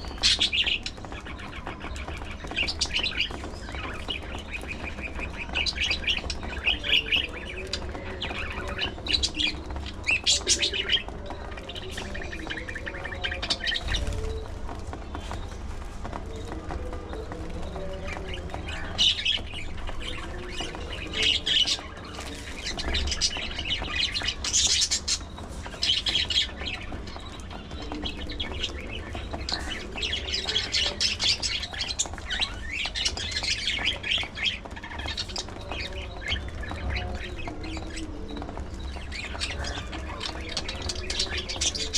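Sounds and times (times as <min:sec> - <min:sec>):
budgerigars chattering and squawking: 0:00.0 - 0:41.9.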